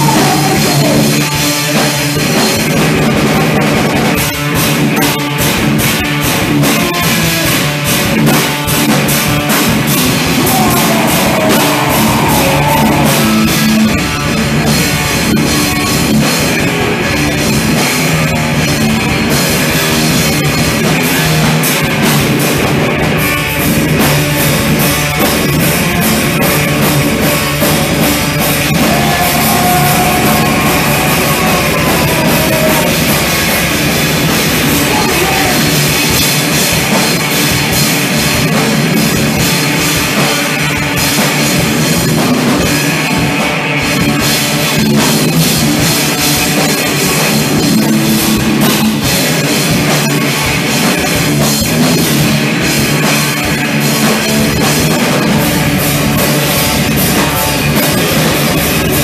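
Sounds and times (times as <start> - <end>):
heavy rock music: 0.0 - 59.0.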